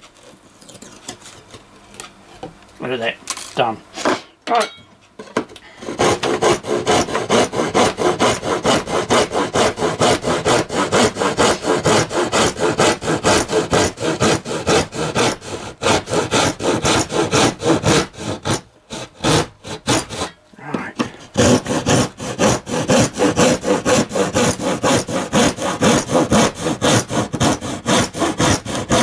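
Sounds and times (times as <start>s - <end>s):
hand saw cutting wood: 5.8s - 29.0s.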